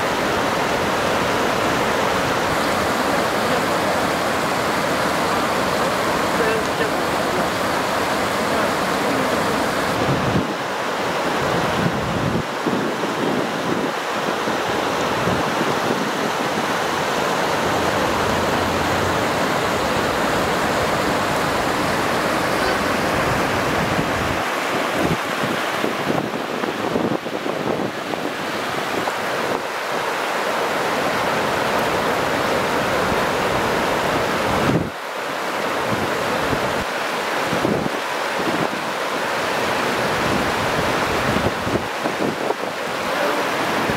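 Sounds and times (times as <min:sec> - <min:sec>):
river water rushing over weir: 0:00.0 - 0:43.9.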